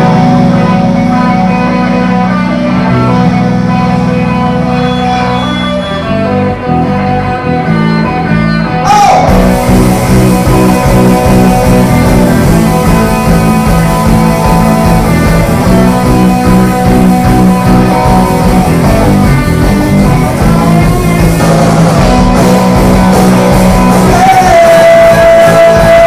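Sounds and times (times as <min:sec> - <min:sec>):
electric guitar: 0:00.0 - 0:26.0
live rock band playing: 0:00.0 - 0:26.0.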